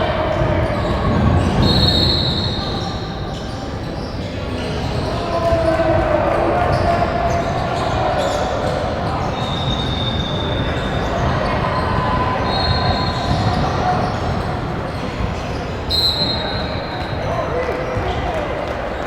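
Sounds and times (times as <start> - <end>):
echoing voices: 0.0 - 19.0.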